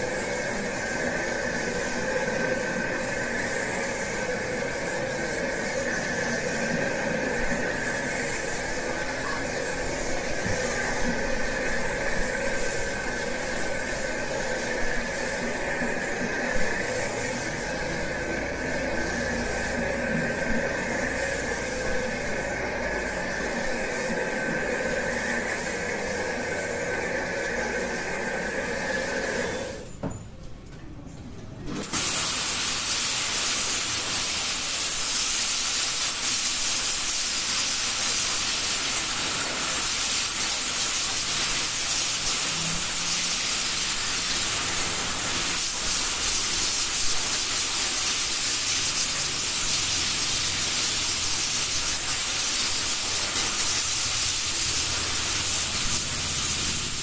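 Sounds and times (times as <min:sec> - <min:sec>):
water spraying with a hiss: 0:00.0 - 0:29.9, 0:31.7 - 0:57.0.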